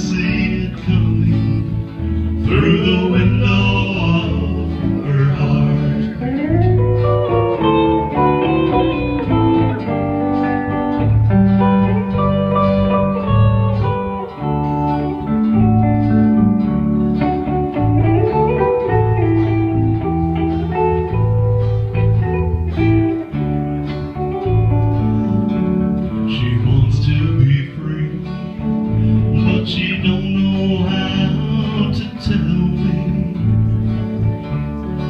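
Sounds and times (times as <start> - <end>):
bass and rhythm accompaniment: 0.0 - 35.0
lead guitar melody: 0.0 - 35.0.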